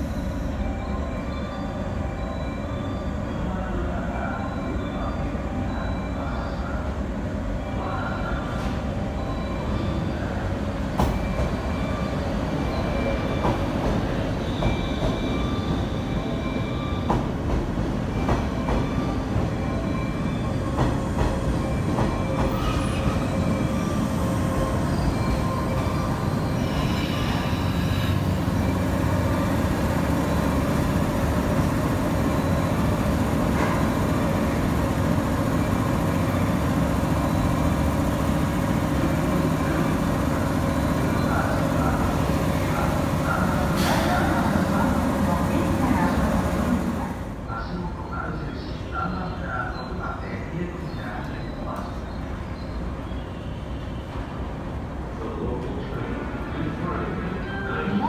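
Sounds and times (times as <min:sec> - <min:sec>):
train rumbling on tracks: 0:00.0 - 0:58.0.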